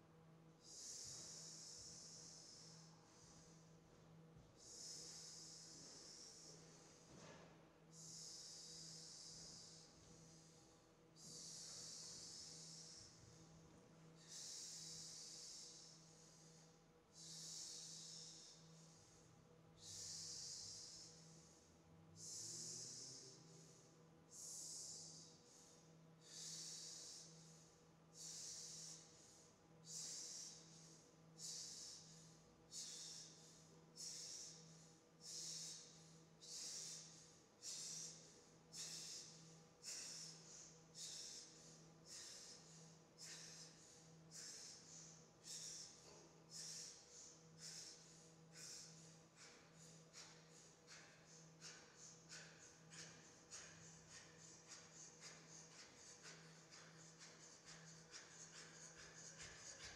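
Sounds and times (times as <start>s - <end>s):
rhythmic hissing breaths: 0.0s - 59.9s.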